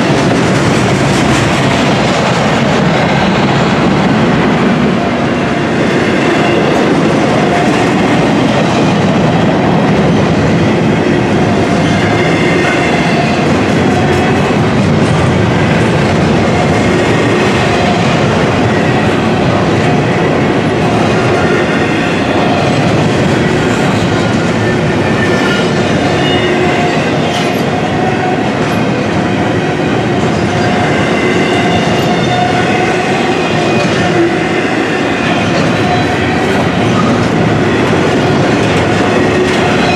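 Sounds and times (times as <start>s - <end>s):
freight train wheels rumbling: 0.0s - 39.9s
train cars clattering: 0.0s - 39.9s.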